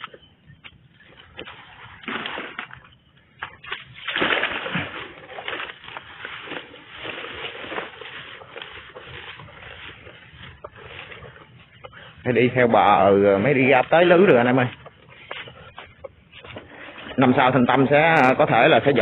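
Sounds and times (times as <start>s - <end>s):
brush rustling underfoot: 0.0s - 19.0s.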